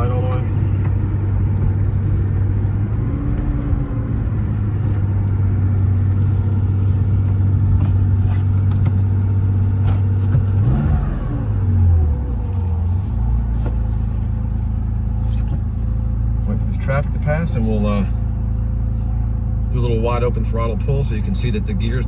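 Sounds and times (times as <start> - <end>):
car engine running at cruise: 0.0 - 22.0
road and wind noise: 0.0 - 22.0.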